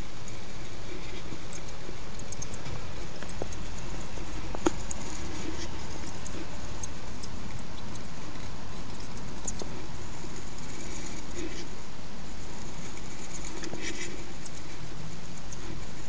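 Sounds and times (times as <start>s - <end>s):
hamster scratching in sand: 0.0s - 16.0s
steady hiss and low hum: 0.0s - 16.0s.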